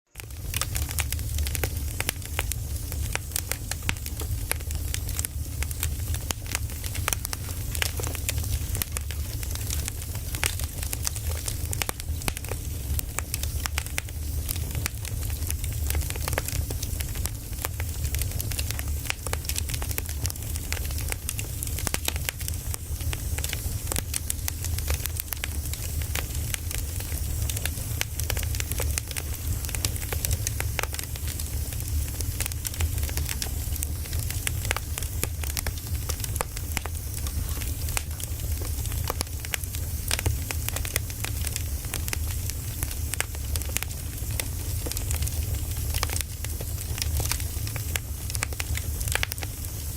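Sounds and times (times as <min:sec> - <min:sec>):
firewood crackling: 0:00.1 - 0:49.9.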